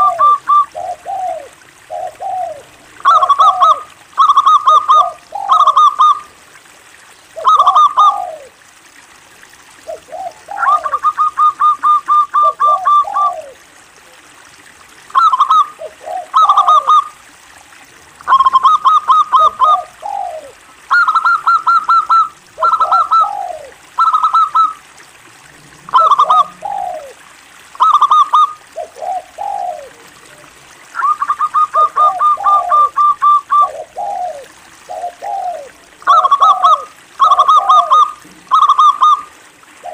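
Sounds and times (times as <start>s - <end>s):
dove cooing: 0.0s - 6.3s, 7.4s - 8.6s, 9.8s - 13.7s, 15.1s - 17.2s, 18.2s - 24.8s, 25.6s - 27.2s, 27.8s - 39.9s.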